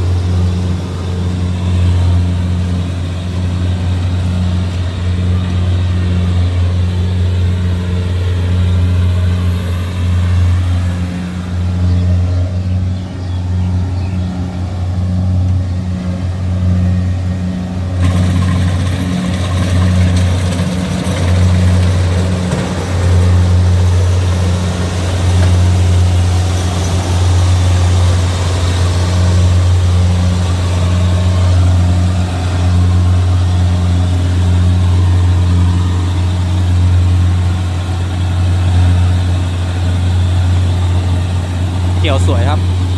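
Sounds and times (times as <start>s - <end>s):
combine harvester engine running: 0.0s - 42.9s.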